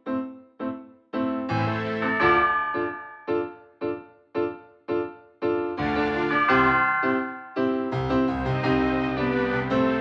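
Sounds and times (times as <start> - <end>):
keyboard chords: 0.0 - 10.0.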